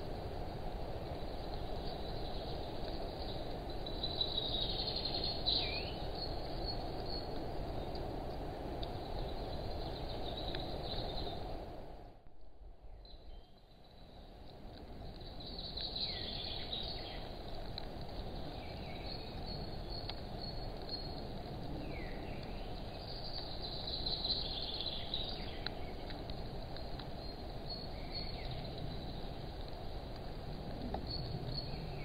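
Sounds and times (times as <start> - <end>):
small birds chirping: 1.0 - 11.5, 12.9 - 32.0.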